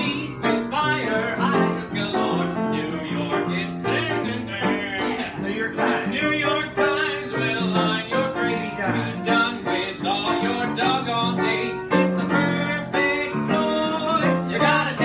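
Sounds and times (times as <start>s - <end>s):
upright piano playing: 0.0s - 15.0s
voices singing: 0.0s - 15.0s.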